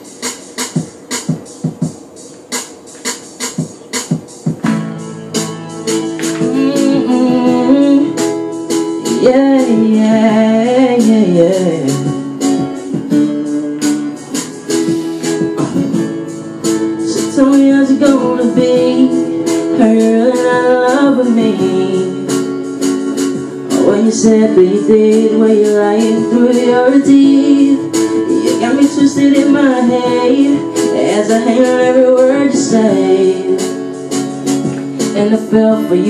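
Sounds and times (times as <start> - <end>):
steady drum beat: 0.0 - 35.4
guitar: 0.0 - 36.0.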